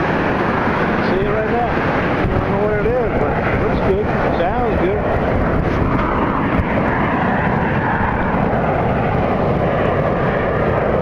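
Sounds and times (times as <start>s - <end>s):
heavy surf: 0.0s - 11.0s
wind on microphone: 0.0s - 11.0s.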